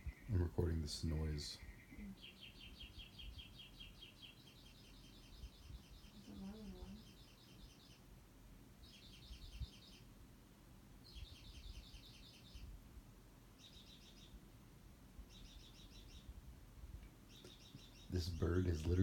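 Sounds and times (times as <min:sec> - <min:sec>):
songbird chirping: 0:00.0 - 0:10.2, 0:11.0 - 0:16.4, 0:17.0 - 0:19.0.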